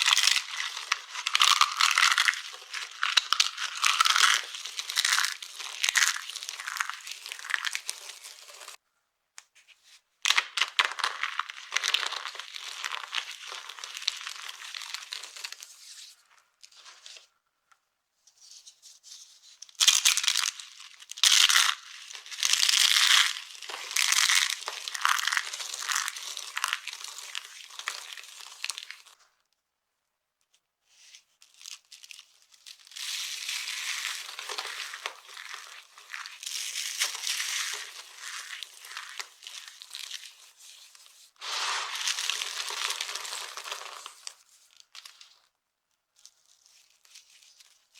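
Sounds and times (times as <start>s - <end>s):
soap crunching and crackling: 0.0s - 8.8s, 10.2s - 16.8s, 19.6s - 29.2s, 31.4s - 45.5s.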